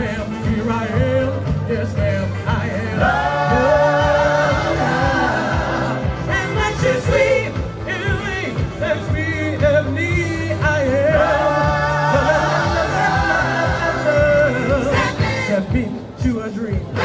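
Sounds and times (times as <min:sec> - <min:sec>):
bass line accompaniment: 0:00.0 - 0:17.0
men singing in harmony: 0:00.0 - 0:17.0.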